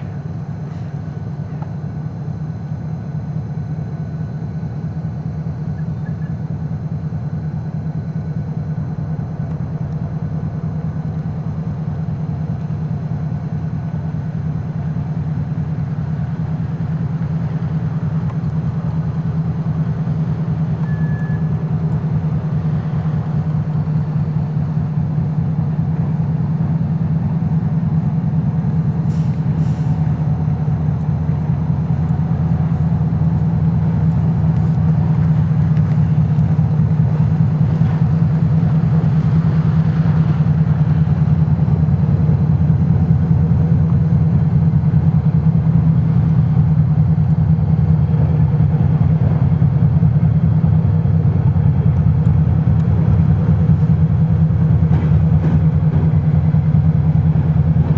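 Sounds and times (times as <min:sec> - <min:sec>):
diesel locomotive engine rumbling: 0:00.0 - 0:57.9.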